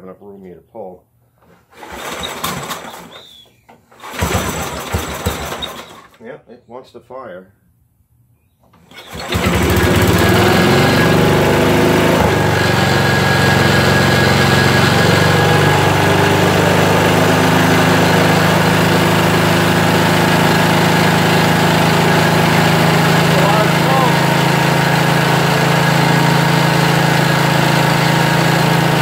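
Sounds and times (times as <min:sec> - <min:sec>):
lawn mower engine running: 0:01.7 - 0:06.2, 0:08.9 - 0:29.0.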